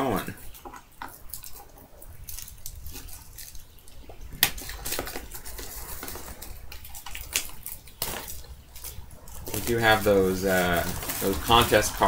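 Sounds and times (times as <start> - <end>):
cardboard and card packs rustling: 0.0 - 12.0.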